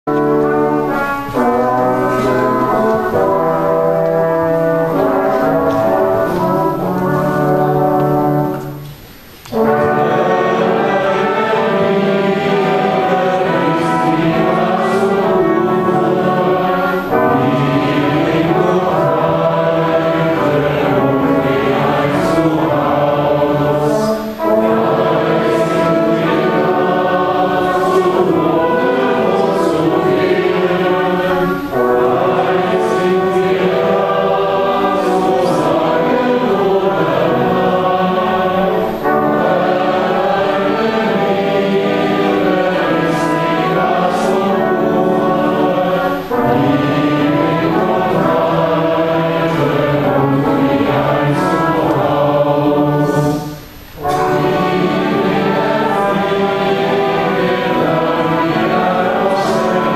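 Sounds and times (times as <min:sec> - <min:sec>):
brass ensemble playing a hymn: 0:00.0 - 0:59.9
congregation singing a hymn: 0:00.0 - 0:59.9.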